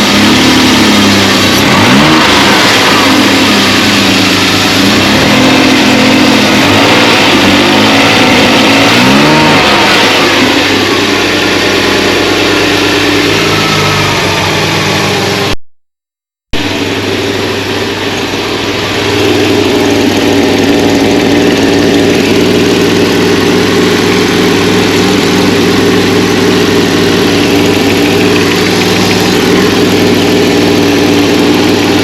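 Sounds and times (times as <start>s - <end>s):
car engine revving and idling: 0.0s - 15.6s, 16.5s - 32.0s.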